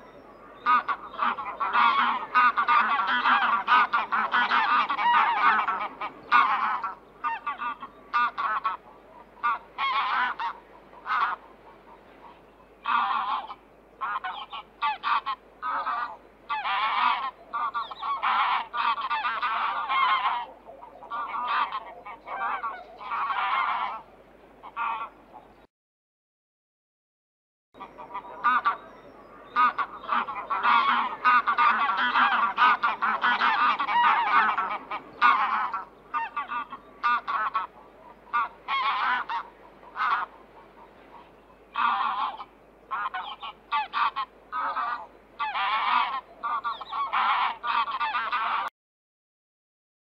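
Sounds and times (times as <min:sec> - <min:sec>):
waterfowl honking: 0:00.0 - 0:25.5, 0:27.8 - 0:48.7.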